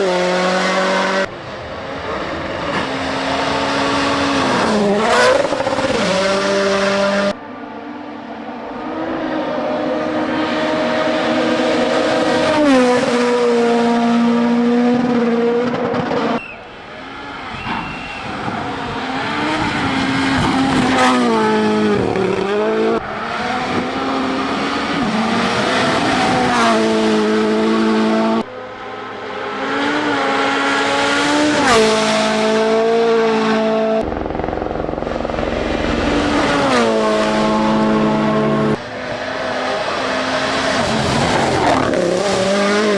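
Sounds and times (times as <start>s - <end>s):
rally car engines at full throttle: 0.0s - 42.9s
road and tyre noise: 0.0s - 42.9s.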